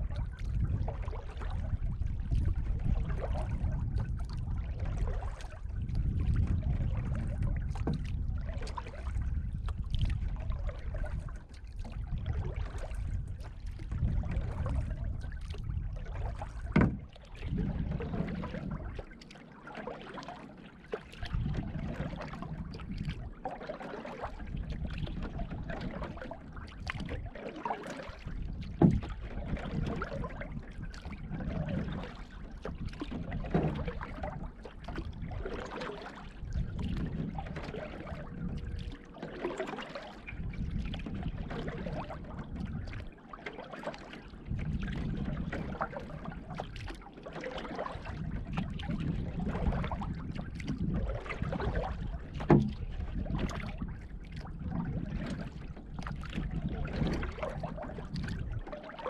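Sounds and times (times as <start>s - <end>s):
water trickling off paddle: 0.0s - 59.0s
paddle knocking against canoe: 5.0s - 19.0s, 24.1s - 39.7s, 40.3s - 58.8s.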